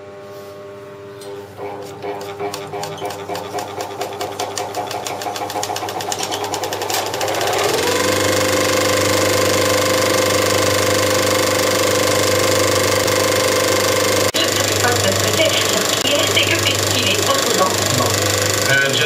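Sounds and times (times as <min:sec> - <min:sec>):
projector motor whirring: 0:00.0 - 0:19.0
film projector mechanism clattering: 0:01.6 - 0:19.0.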